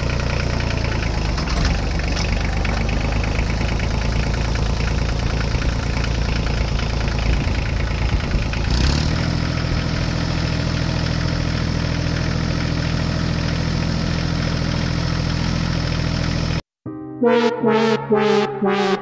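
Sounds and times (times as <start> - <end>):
tractor engine running: 0.0 - 16.6.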